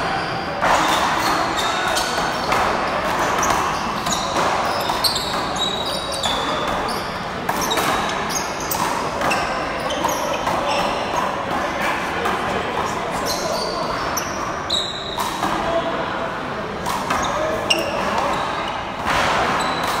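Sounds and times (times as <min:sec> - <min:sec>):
sneaker squeaks on court: 0:00.0 - 0:11.5, 0:12.7 - 0:15.6, 0:16.9 - 0:20.0.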